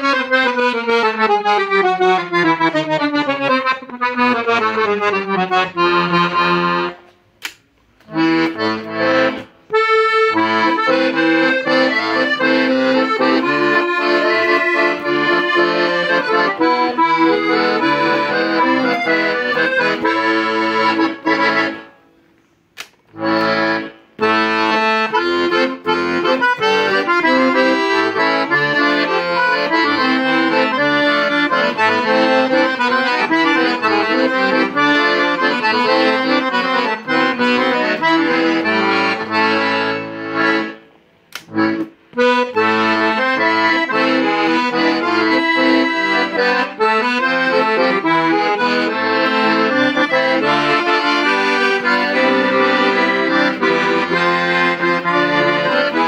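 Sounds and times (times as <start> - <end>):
piano accordion melody: 0.0 - 56.0.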